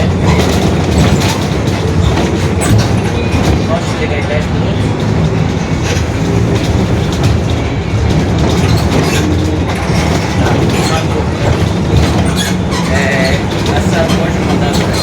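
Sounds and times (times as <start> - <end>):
bus differential droning: 0.0 - 15.0
rattling: 0.0 - 15.0.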